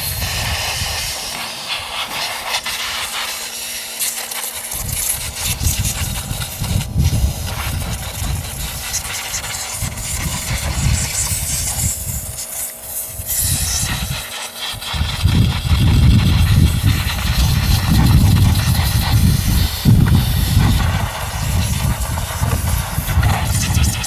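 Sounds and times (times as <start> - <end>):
compressed air hissing from blow gun: 0.0 - 24.0.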